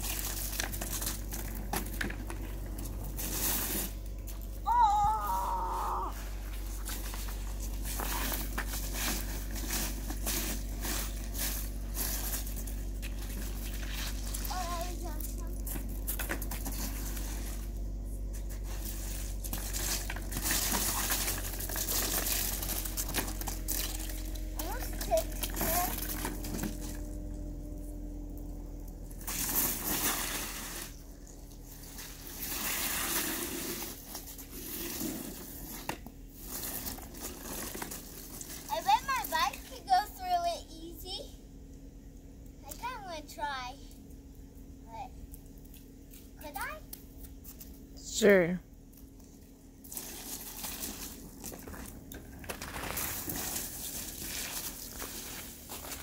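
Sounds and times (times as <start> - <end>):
plastic wheels scraping wet concrete: 0.0 - 27.4, 29.1 - 41.2, 49.8 - 56.0.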